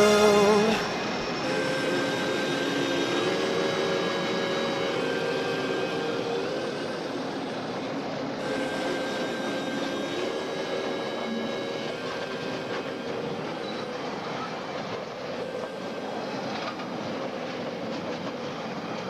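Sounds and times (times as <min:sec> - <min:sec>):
high whining tones: 0:00.0 - 0:18.6
train rumbling on rails: 0:00.0 - 0:19.0.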